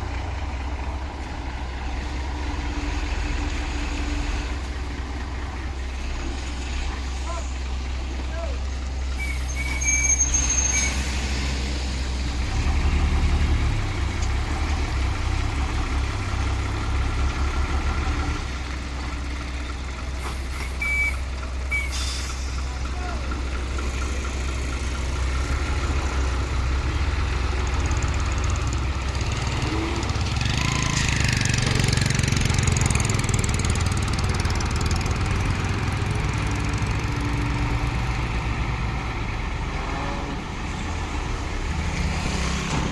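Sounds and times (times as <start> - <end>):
diesel engine rumbling: 0.0 - 42.9.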